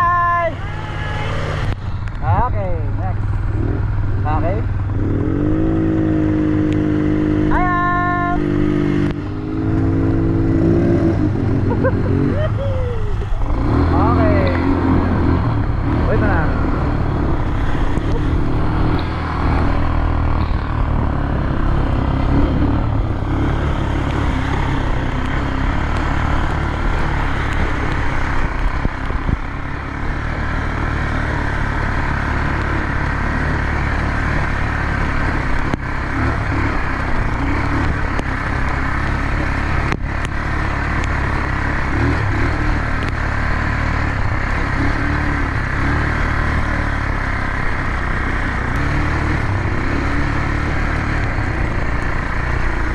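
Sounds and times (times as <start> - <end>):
atv engine drone: 0.0 - 52.9
road and wind noise: 0.0 - 52.9.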